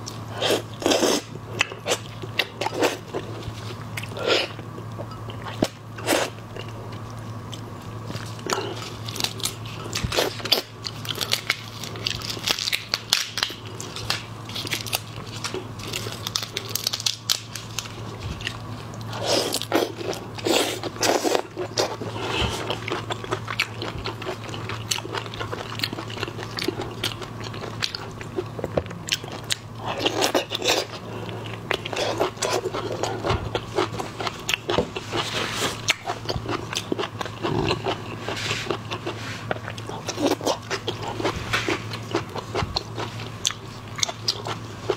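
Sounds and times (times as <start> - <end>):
low hum: 0.0 - 44.9.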